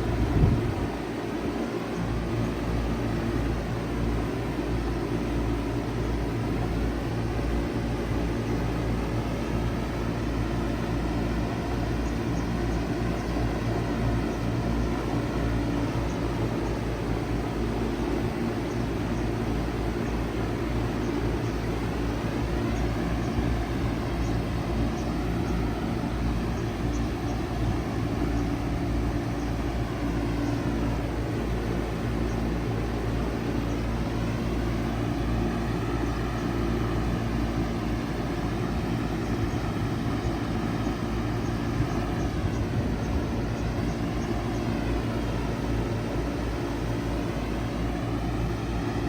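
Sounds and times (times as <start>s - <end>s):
compressor hum: 0.0s - 49.0s
fan rushing air: 0.0s - 49.0s.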